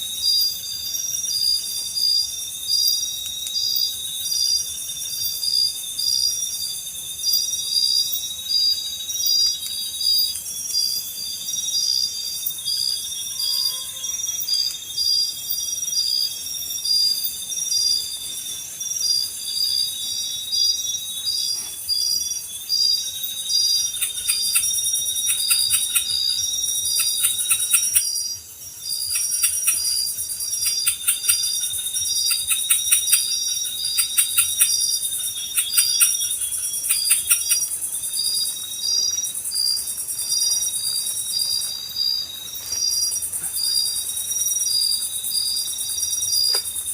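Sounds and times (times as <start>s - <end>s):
high-pitched insect whine: 0.0s - 46.9s
insect chirps: 0.0s - 46.9s.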